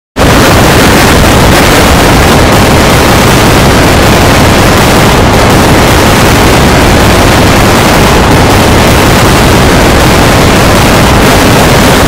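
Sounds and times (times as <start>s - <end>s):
loud distorted noise: 0.2s - 12.0s.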